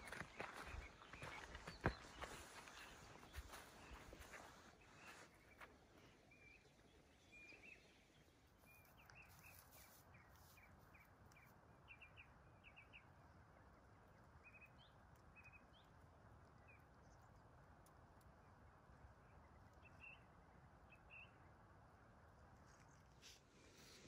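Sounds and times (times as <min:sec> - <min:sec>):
low steady background hush: 0:00.0 - 0:24.0.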